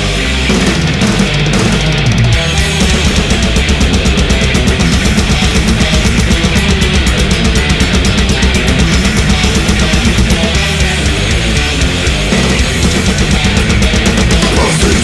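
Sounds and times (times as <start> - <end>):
distorted guitar and bass: 0.0 - 15.0
fast drumming: 0.4 - 15.0.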